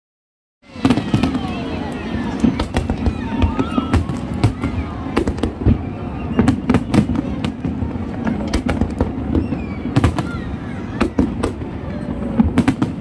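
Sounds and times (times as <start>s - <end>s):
fireworks bangs and crackles: 0.6s - 13.0s.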